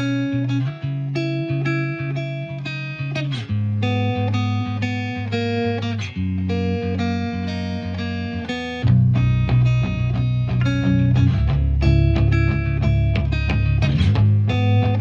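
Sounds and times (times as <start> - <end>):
bass: 0.0 - 15.0
guitar background music: 0.0 - 15.0.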